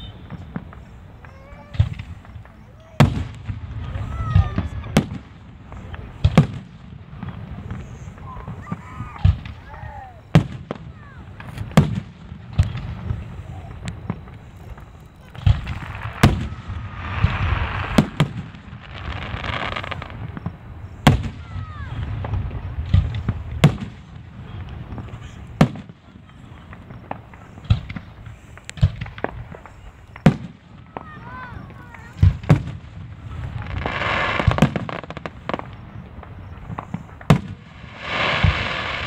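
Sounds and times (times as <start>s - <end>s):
firework shells bursting: 0.0s - 39.0s.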